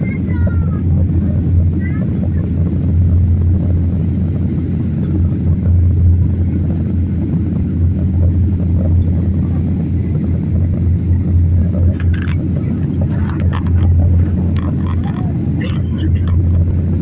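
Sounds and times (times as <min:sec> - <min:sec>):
airliner engines droning: 0:00.0 - 0:17.0
rushing air: 0:00.0 - 0:17.0.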